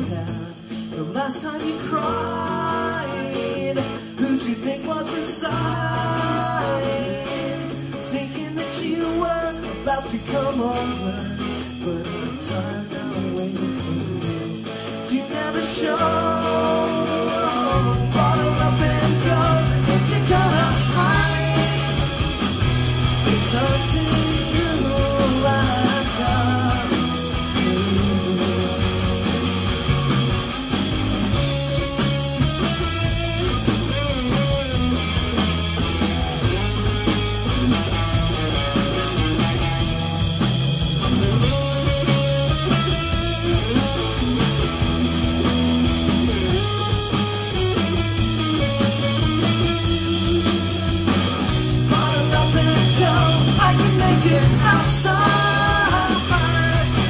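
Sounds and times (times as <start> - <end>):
bass guitar: 0.0 - 57.0
drums: 0.0 - 57.0
electric guitar melody: 0.0 - 57.0.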